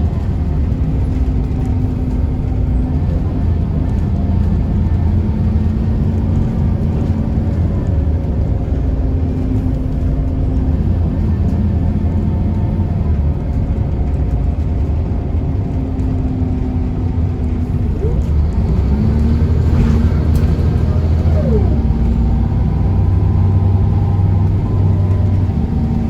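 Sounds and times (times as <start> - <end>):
bus diesel engine running: 0.0 - 26.0
low hum: 0.0 - 26.0.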